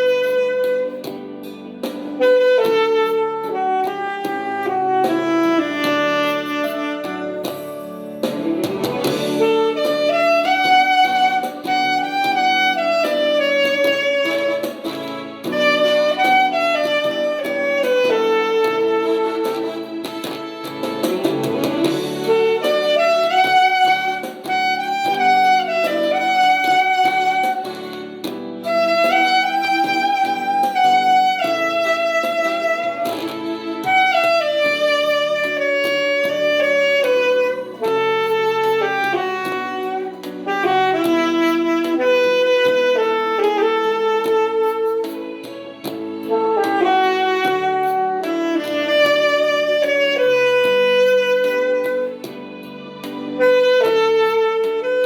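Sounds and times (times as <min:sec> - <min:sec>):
saxophone melody: 0:00.0 - 0:55.0.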